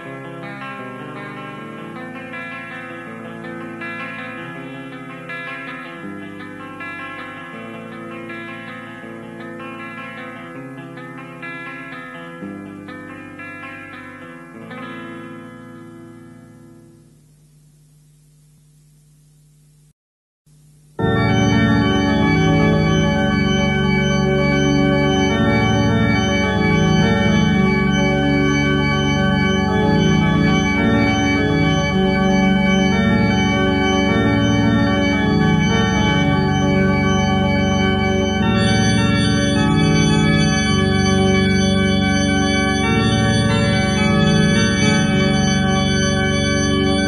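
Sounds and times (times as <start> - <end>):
organ-toned keyboard chords: 0.0 - 16.8, 20.9 - 47.0.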